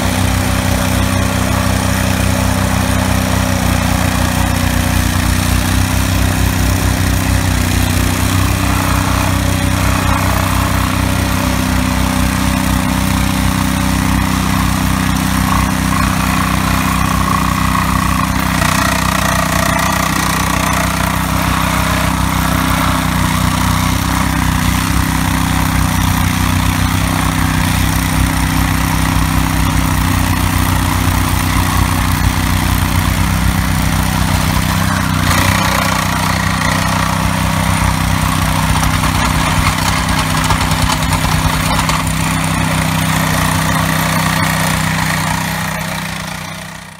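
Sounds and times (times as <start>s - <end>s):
loader engine running: 0.0s - 46.9s
plow blade vibrating: 0.0s - 46.9s.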